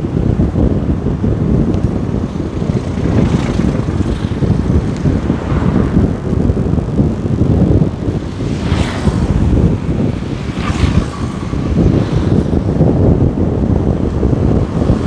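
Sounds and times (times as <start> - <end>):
vehicle road noise: 0.0 - 15.0
wind buffeting microphone: 0.0 - 15.0.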